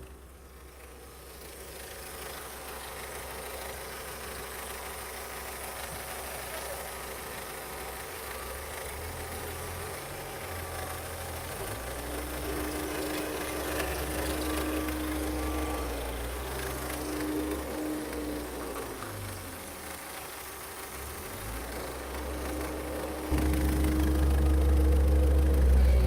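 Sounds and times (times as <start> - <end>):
car engine idling: 0.0 - 26.0
thin engine whine: 0.0 - 26.0.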